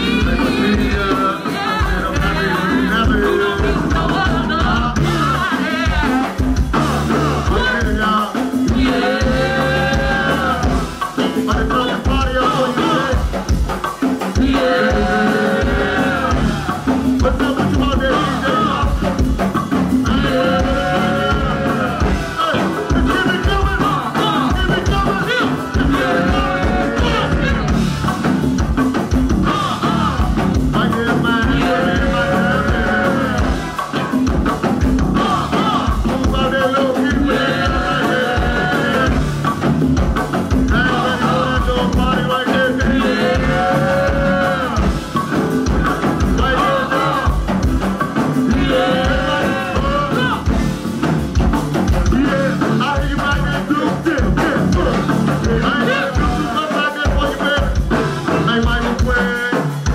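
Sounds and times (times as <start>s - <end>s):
bass: 0.0s - 59.9s
drum kit beat: 0.0s - 59.9s.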